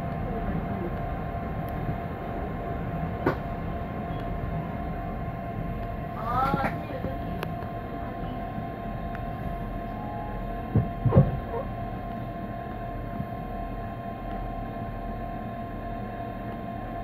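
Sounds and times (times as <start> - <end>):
train interior hum: 0.0 - 17.0.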